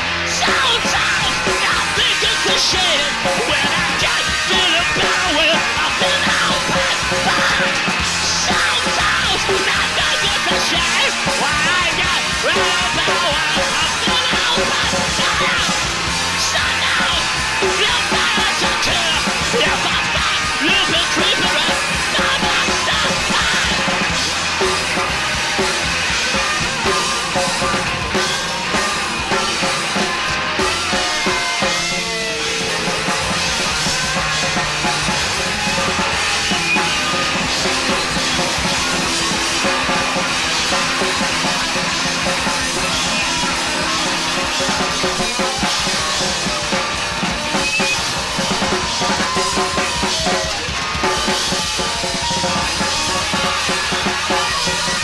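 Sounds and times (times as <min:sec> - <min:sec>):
drum kit beat: 0:00.0 - 0:55.0
live rock band playing: 0:00.0 - 0:55.0.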